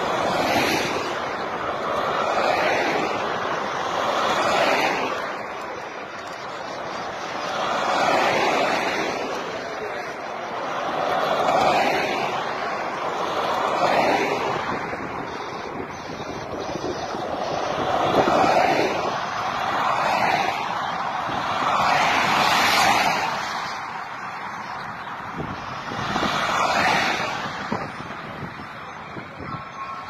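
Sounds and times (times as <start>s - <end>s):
cars passing at speed: 0.0s - 30.0s.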